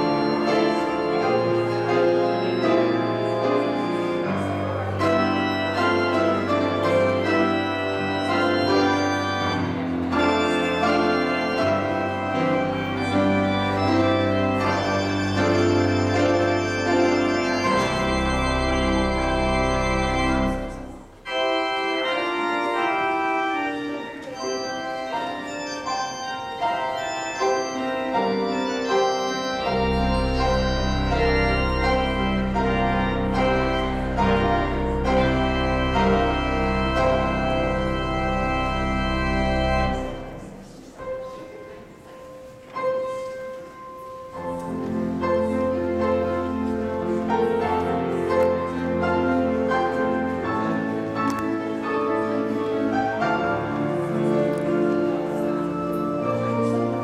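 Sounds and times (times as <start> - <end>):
deep organ pedal notes: 0.0 - 41.5, 44.0 - 57.0
organ playing sustained chords: 0.0 - 57.0.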